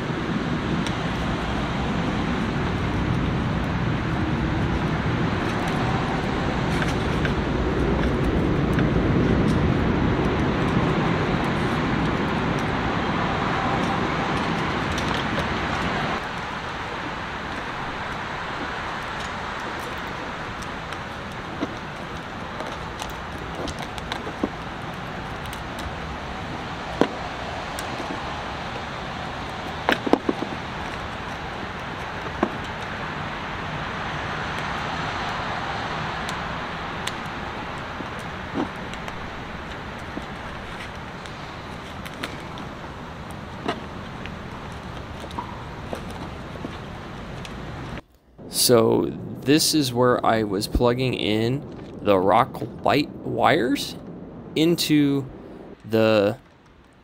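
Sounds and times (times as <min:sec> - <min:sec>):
ambient rumble and hiss: 0:00.0 - 0:57.0.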